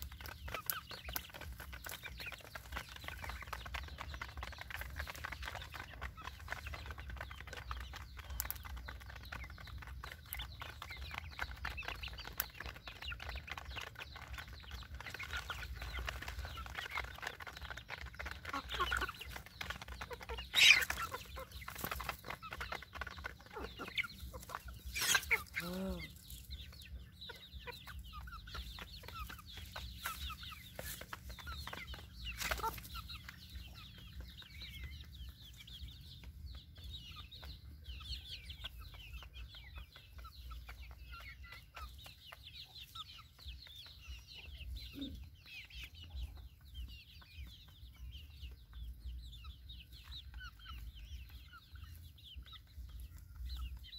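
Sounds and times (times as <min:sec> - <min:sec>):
chicks cheeping: 0:00.0 - 0:53.9
hen clucking: 0:00.0 - 0:53.9.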